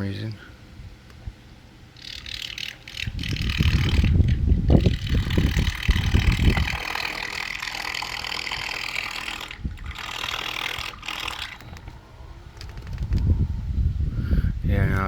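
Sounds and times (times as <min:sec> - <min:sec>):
wind buffeting microphone: 0:00.6 - 0:15.0
electric trolling motor humming: 0:01.0 - 0:13.7.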